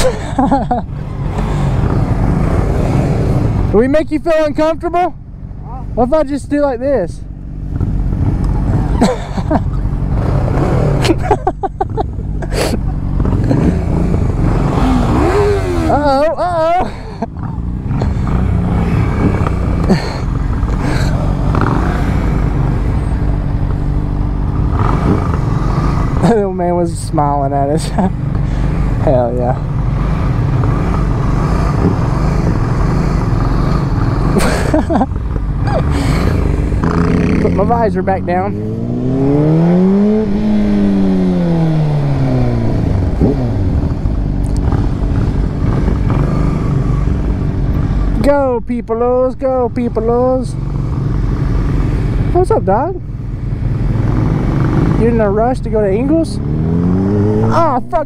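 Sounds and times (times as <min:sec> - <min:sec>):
motorcycle engines idling: 0:00.0 - 0:39.1, 0:40.2 - 0:56.9.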